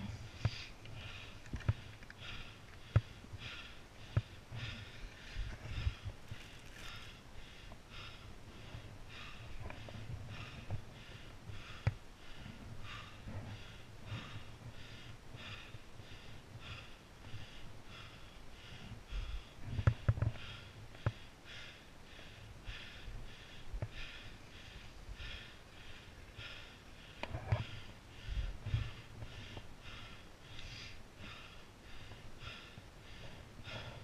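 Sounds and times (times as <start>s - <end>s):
heavy breathing: 0.0s - 34.0s.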